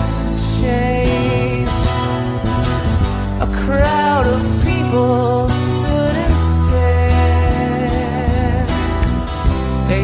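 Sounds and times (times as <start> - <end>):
pop song with strummed guitar: 0.0 - 10.0.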